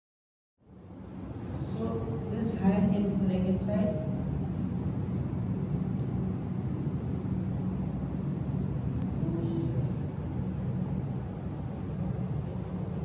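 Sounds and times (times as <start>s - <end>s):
low mechanical hum: 0.6s - 13.0s.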